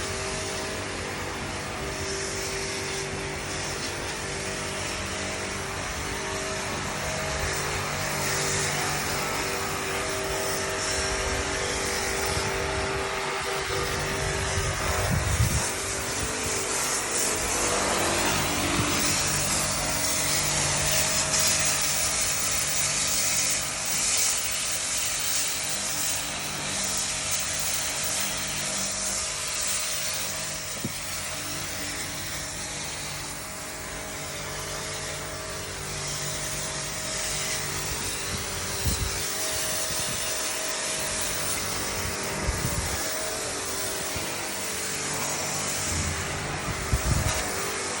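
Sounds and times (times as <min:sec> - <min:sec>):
machine hum with hiss: 0:00.0 - 0:48.0.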